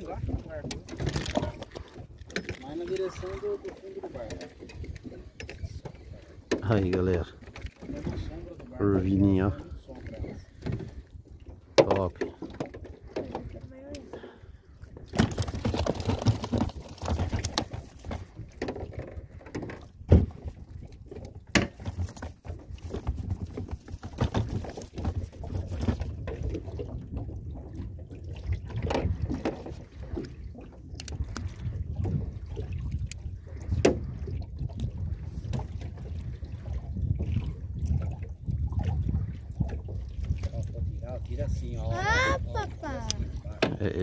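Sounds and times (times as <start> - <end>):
waves lapping against boat: 0.0 - 44.0
wind rumbling on microphone: 0.0 - 44.0.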